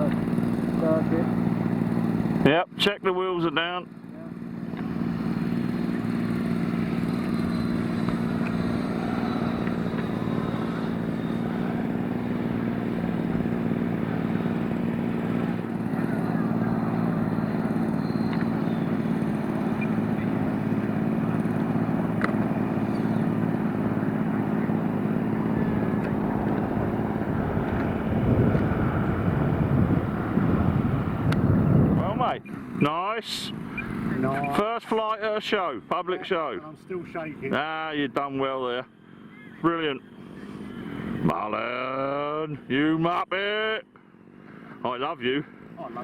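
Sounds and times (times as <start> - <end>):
electric ducted fans whirring: 0.0 - 46.0.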